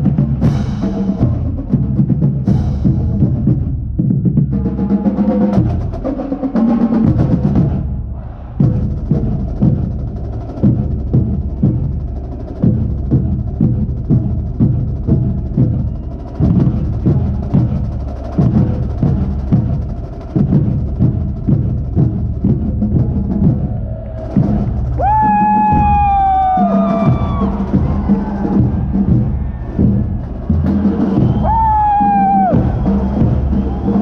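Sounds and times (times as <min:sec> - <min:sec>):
marching drumline cadence: 0:00.0 - 0:34.0
bass drum strokes: 0:05.4 - 0:34.0.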